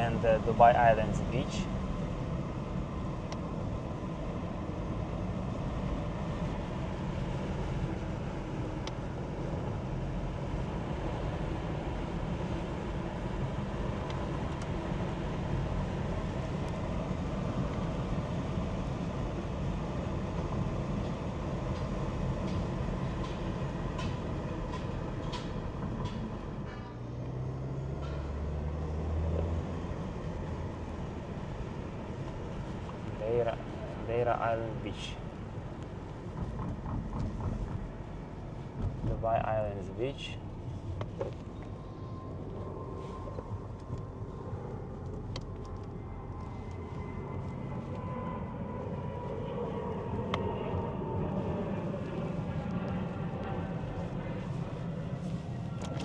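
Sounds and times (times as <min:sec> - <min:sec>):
car cabin road and engine noise: 0:00.0 - 0:56.0.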